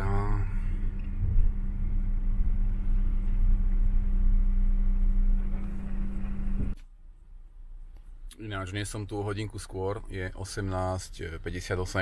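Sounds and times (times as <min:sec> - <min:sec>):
van engine rumbling: 0:00.0 - 0:12.0.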